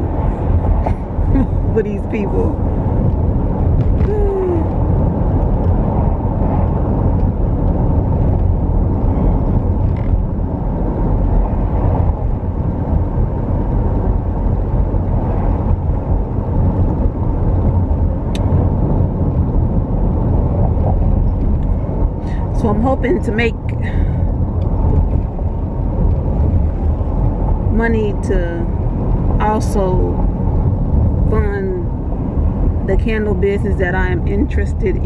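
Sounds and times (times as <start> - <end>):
car cabin road and engine noise: 0.0 - 35.0.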